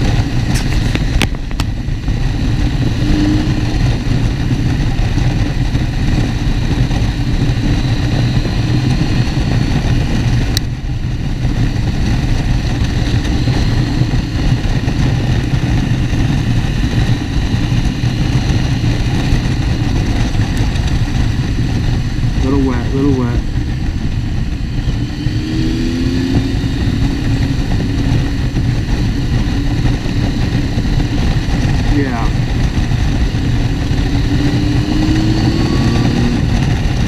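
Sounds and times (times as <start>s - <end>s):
motorcycle engine running: 0.0s - 37.0s
wind and road noise: 0.0s - 37.0s.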